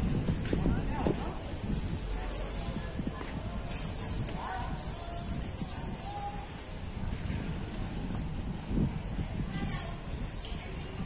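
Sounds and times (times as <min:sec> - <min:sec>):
birds chirping: 0:00.0 - 0:07.0, 0:07.6 - 0:11.0
low street rumble: 0:00.0 - 0:11.0.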